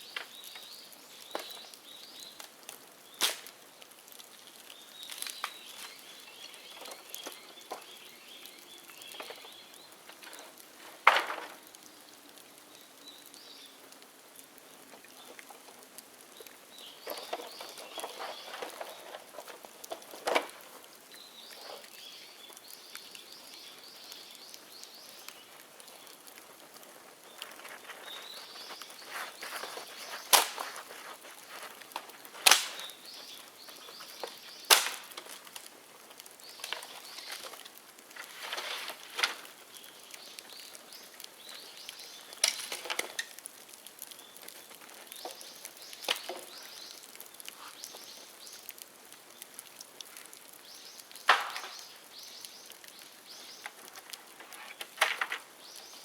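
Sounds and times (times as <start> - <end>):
birds chirping: 0.0 - 2.4, 4.7 - 13.8, 16.3 - 43.4, 44.1 - 48.8, 50.6 - 56.0
bamboo cracking in a bonfire: 0.0 - 56.0
fire crackling: 0.0 - 56.0.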